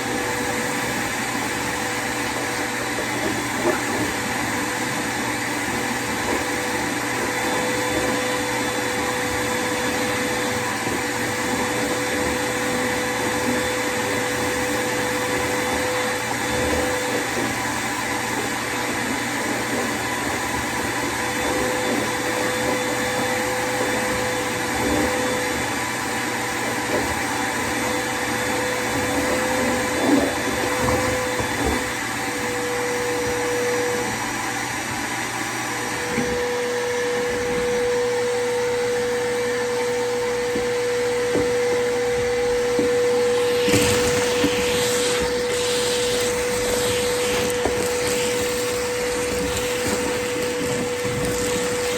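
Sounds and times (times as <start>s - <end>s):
shop vac motor whine: 0.0s - 51.9s.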